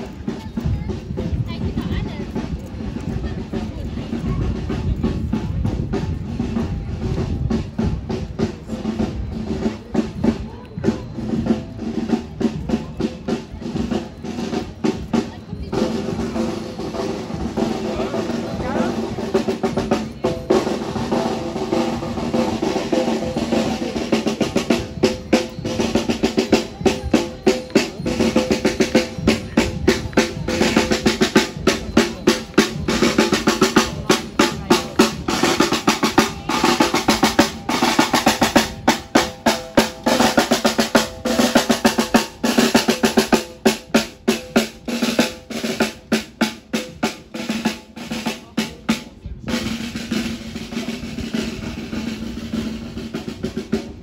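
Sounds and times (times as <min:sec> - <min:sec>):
snare drums march rhythm: 0:00.0 - 0:54.0.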